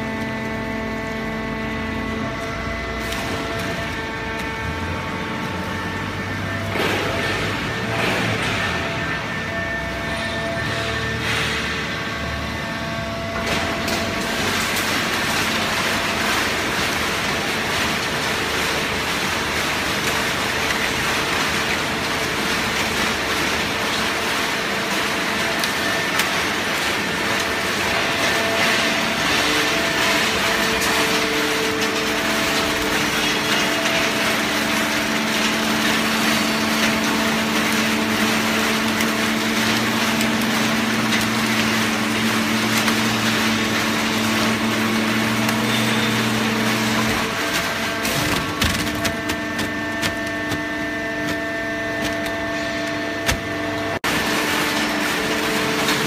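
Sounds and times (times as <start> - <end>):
baling press mechanical noise: 0.0 - 56.0
hydraulic unit humming tones: 0.0 - 56.0.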